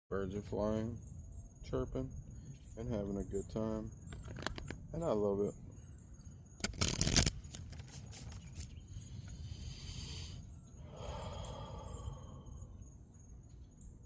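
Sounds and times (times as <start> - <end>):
faint high chirping: 0.1 - 6.7, 7.6 - 14.0.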